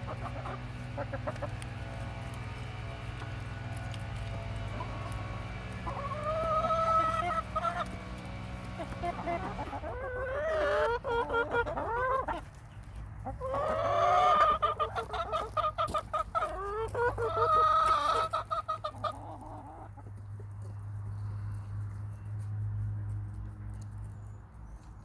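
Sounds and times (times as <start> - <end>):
hens clucking: 0.0 - 21.9.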